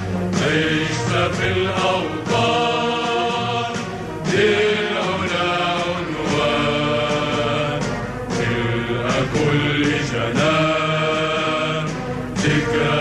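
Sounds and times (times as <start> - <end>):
voices chanting together: 0.0 - 13.0.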